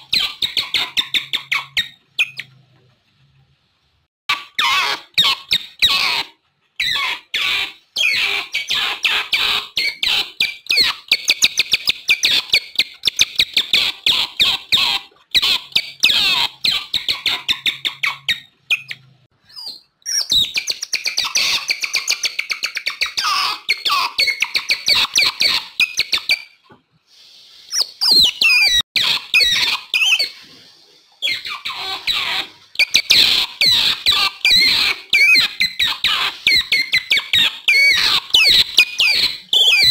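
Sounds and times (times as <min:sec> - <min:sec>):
otters chirping and squeaking: 0:00.0 - 0:02.8, 0:04.3 - 0:26.8, 0:27.7 - 0:39.9.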